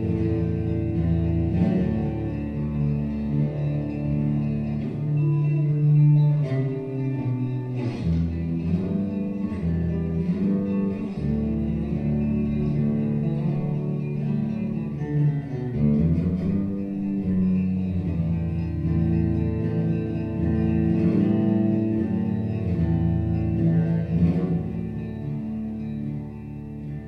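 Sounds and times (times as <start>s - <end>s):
low bass line: 0.0s - 27.0s
plucked guitar: 0.0s - 27.0s.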